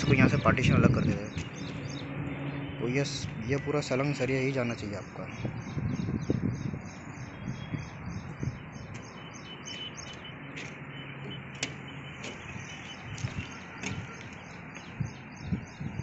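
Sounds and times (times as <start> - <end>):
noisy background: 0.0 - 16.0.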